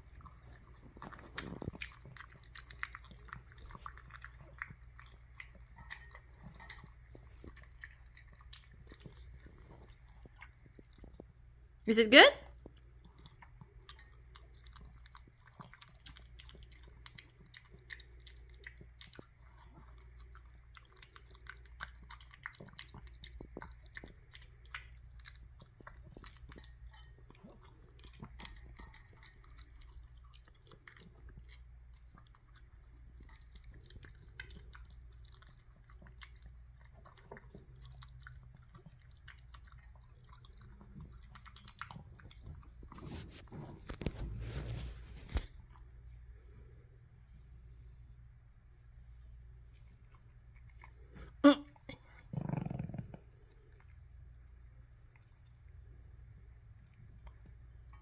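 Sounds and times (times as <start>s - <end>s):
dog chewing food: 0.0s - 11.8s, 12.5s - 47.0s, 49.5s - 51.4s, 52.0s - 58.0s.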